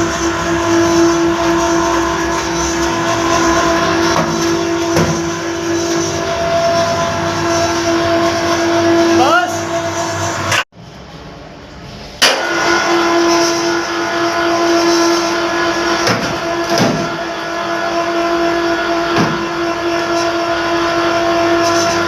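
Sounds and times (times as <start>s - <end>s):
lift motor humming: 0.0s - 10.6s, 12.2s - 22.0s.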